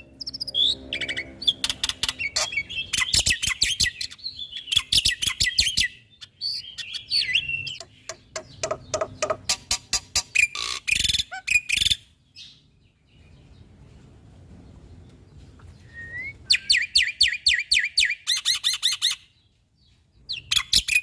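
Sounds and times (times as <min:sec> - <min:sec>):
bird singing varied song: 0:00.0 - 0:21.0.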